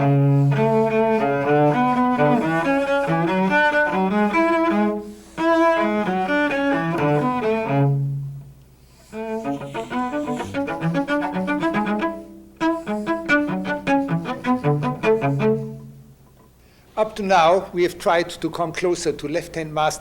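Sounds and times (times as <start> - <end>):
cello playing double stops: 0.0 - 16.6.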